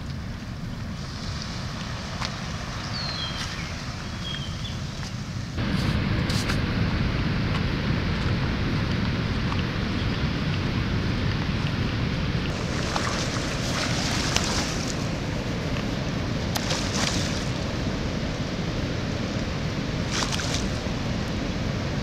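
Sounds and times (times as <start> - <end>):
rushing floodwater: 0.0 - 22.0
wind buffeting microphone: 0.0 - 22.0.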